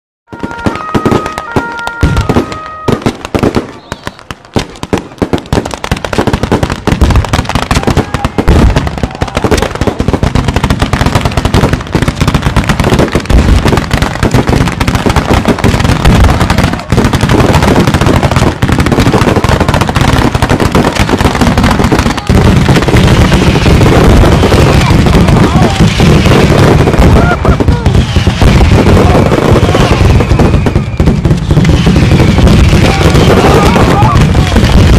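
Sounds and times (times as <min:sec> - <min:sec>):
firecrackers crackling: 0:00.3 - 0:34.9.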